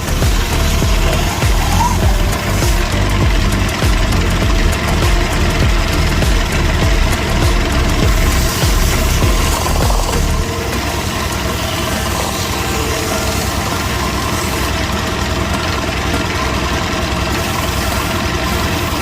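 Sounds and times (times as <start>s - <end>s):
motor-driven machine running: 0.0s - 19.0s.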